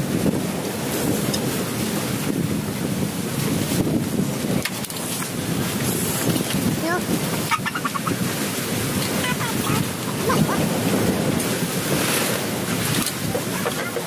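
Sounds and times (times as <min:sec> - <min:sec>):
rushing wind: 0:00.0 - 0:14.0
surf: 0:00.0 - 0:14.0
wind buffeting microphone: 0:00.0 - 0:14.0.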